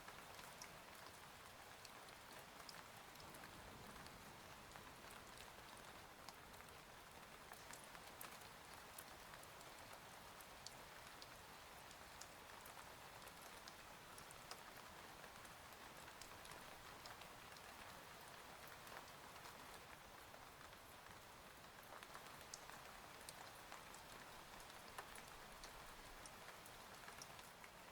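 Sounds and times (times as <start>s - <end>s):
rain on a window: 0.0s - 27.9s.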